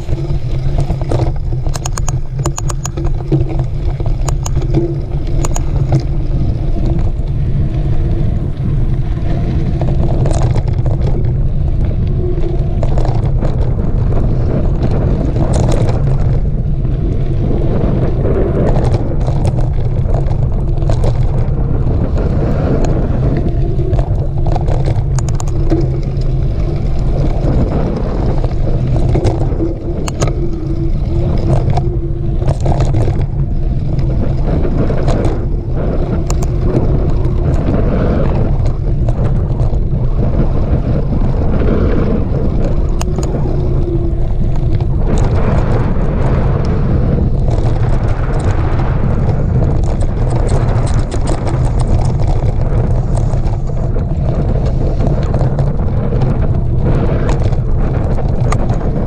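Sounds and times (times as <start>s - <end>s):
bike rattling and knocking: 0.0s - 59.0s
wind rumble on microphone: 0.0s - 59.0s.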